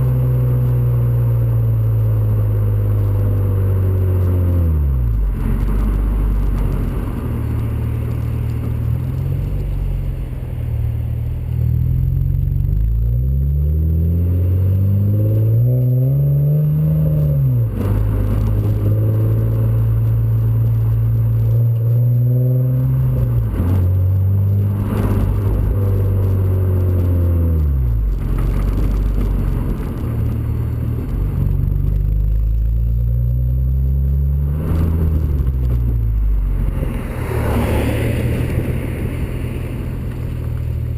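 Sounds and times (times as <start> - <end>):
car exhaust revving: 0.0 - 40.9.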